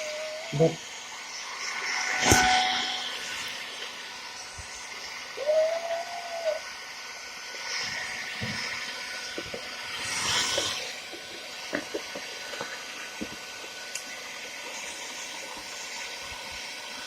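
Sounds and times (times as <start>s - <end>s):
hairdryer blowing: 0.0s - 17.0s.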